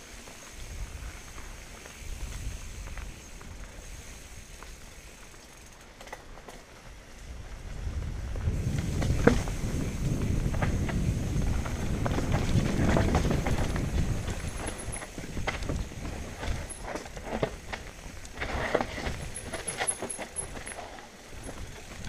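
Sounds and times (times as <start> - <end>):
mountain bike rolling on dirt: 0.0 - 22.0
bike rattling clicks and knocks: 0.2 - 7.2, 8.4 - 22.0.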